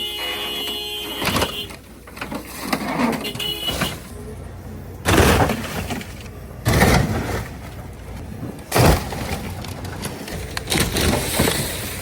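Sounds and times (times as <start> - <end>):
heavy crunching blows on car body: 1.0 - 12.0.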